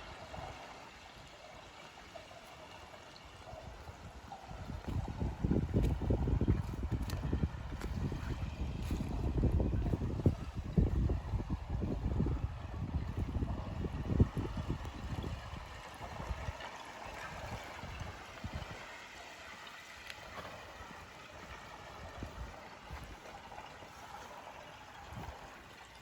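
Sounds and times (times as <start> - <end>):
small waves lapping against ice: 0.0 - 26.0.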